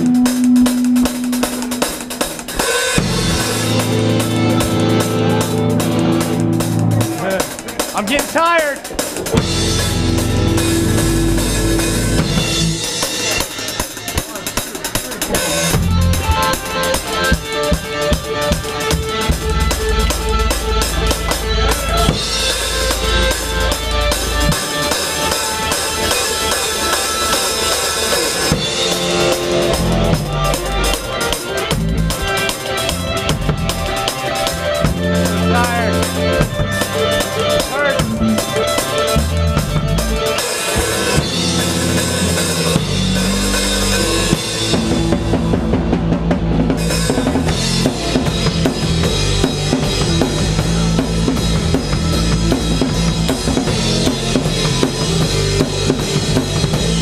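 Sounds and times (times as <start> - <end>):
drum kit beat: 0.0 - 57.0
electric guitars: 0.0 - 57.0.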